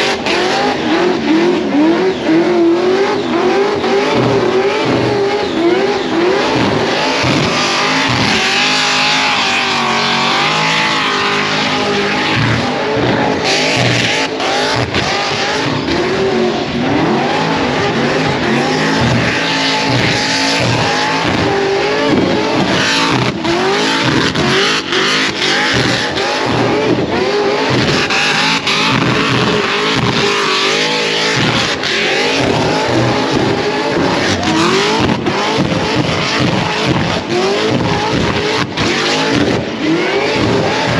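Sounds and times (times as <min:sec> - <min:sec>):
car engine at high revs: 0:00.0 - 0:40.9
spinning tyres squealing: 0:00.0 - 0:40.9.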